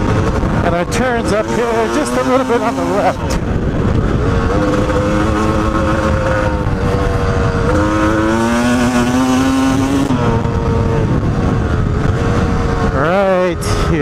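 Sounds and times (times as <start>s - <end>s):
dirt bike engine running hard: 0.0s - 14.0s
wind and tyres on dirt: 0.0s - 14.0s.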